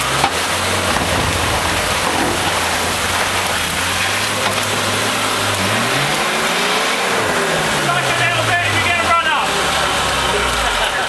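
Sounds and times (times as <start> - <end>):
car engine idling: 0.0 - 11.0
rain hissing: 0.0 - 11.0.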